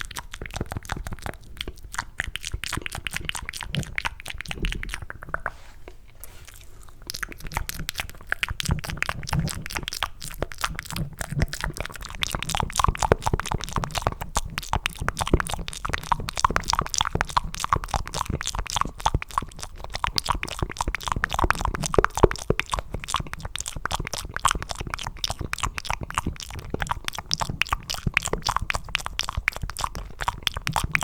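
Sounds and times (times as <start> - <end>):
mouth clicks and smacks: 0.0 - 31.0.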